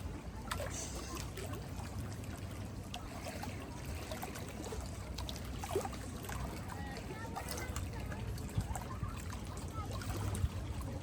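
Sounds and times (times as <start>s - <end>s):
small water splashes: 0.0s - 11.0s
water sloshing and trickling: 0.0s - 11.0s.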